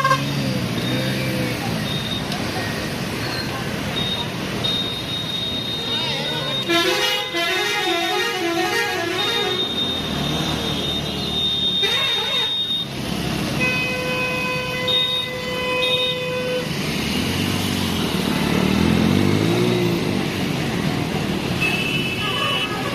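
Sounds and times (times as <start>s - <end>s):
road traffic engines: 0.0s - 22.9s.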